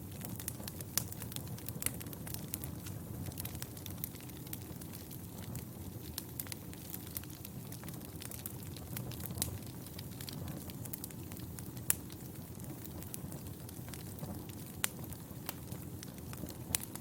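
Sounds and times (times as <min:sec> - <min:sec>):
fire flames rumbling: 0:00.0 - 0:17.0
fire pops and crackles: 0:00.0 - 0:17.0.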